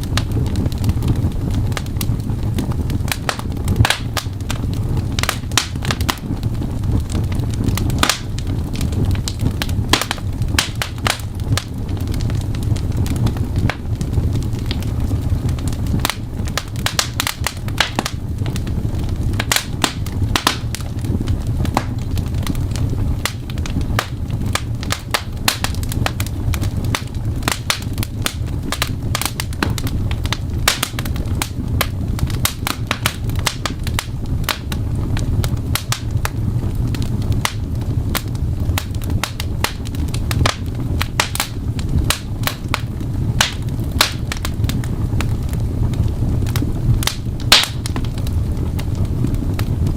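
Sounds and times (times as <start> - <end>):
fireplace crackling: 0.0 - 49.9
low rumble: 0.0 - 49.9.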